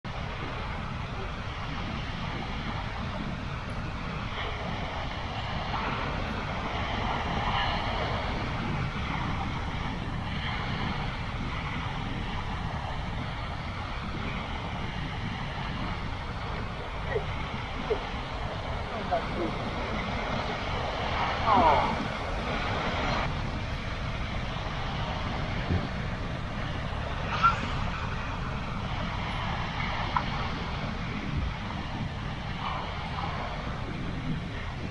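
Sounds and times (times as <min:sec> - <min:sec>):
wind buffeting microphone: 0:00.0 - 0:34.9
small waves breaking on shore: 0:00.1 - 0:34.9.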